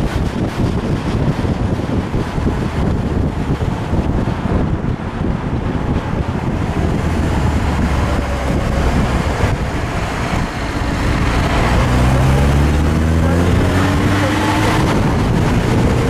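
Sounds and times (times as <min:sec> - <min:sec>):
car engine running: 0:00.0 - 0:16.0
tyre and road noise: 0:00.0 - 0:16.0
wind buffeting microphone: 0:00.0 - 0:16.0.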